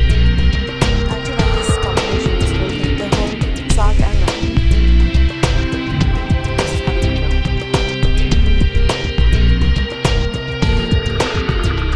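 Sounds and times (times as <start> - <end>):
background music with regular beat: 0.0 - 11.9.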